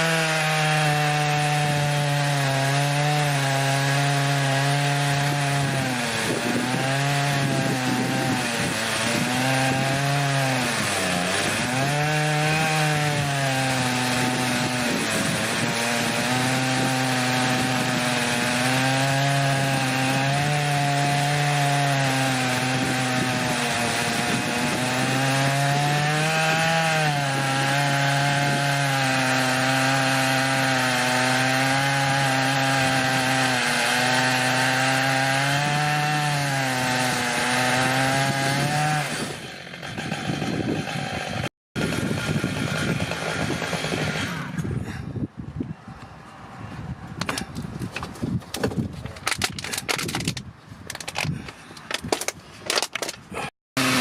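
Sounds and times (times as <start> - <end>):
chainsaw cutting log: 0.0 - 45.0, 47.2 - 54.0.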